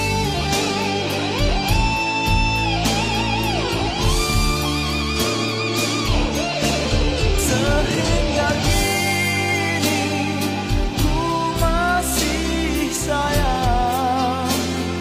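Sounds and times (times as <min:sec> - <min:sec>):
lead guitar melody: 0:00.0 - 0:15.0
pop-rock instrumental music: 0:00.0 - 0:15.0.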